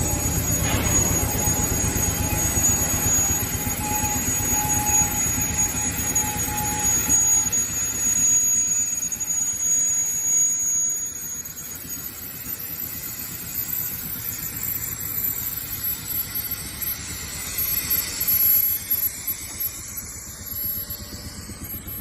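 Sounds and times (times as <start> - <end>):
production-line machinery running: 0.0 - 22.0
thin high-pitched whine: 0.0 - 22.0.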